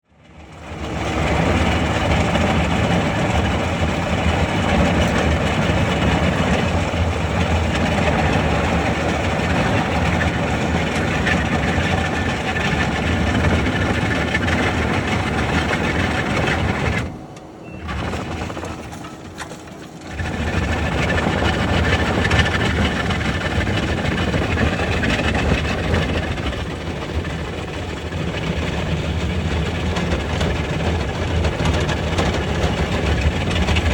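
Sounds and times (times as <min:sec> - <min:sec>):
skid steer with road planer: 0:00.0 - 0:33.9.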